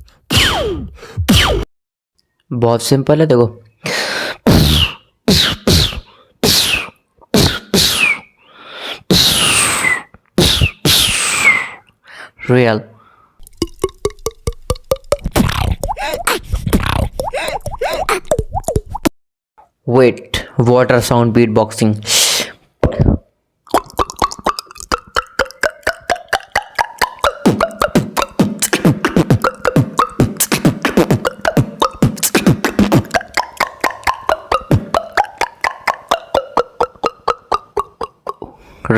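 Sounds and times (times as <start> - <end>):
beatboxer imitating a zipper: 0.0 - 1.7, 3.9 - 11.8, 13.5 - 19.1, 22.1 - 38.6.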